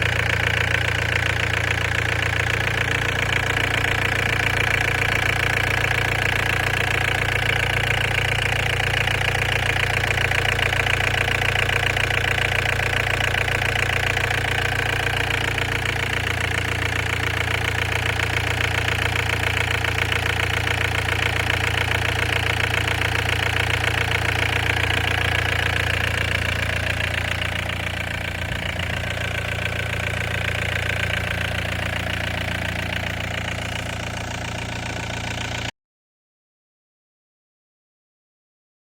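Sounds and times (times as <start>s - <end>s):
excavator diesel engine running: 0.0s - 35.7s.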